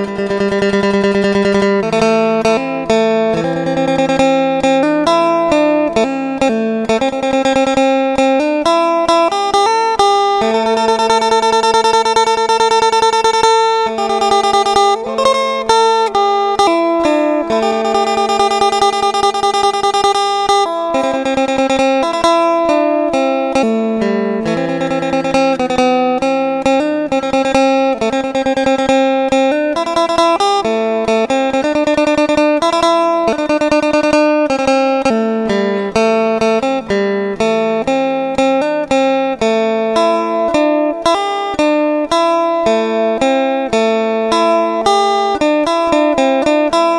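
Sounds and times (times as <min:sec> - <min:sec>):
plucked lute melody: 0:00.0 - 0:46.9.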